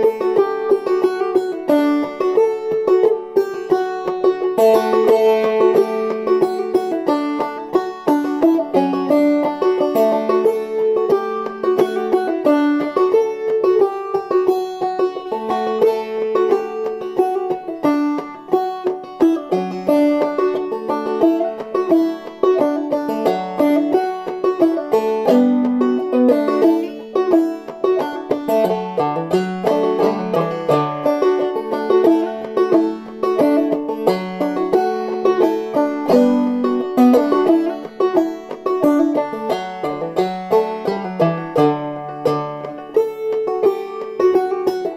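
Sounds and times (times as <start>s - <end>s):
banjo playing: 0.0s - 44.9s.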